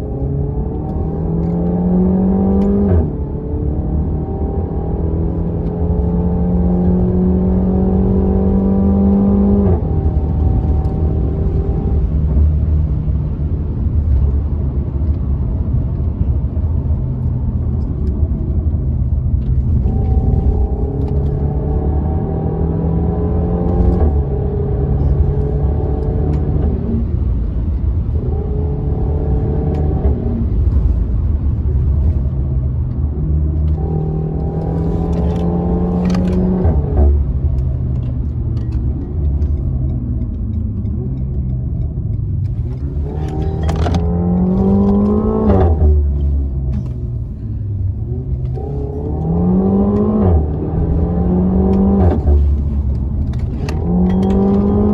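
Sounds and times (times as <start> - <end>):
car engine accelerating: 0.0 - 54.9
low rumble: 0.0 - 54.9.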